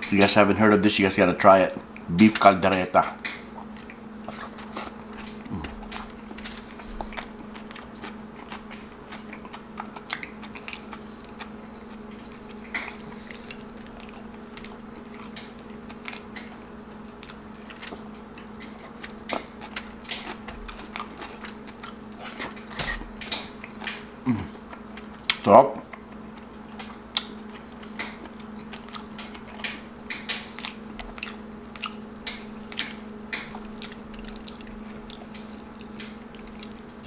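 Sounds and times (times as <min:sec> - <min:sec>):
steady low hum: 0:00.0 - 0:37.0
close chewing with mouth smacks: 0:03.2 - 0:37.0.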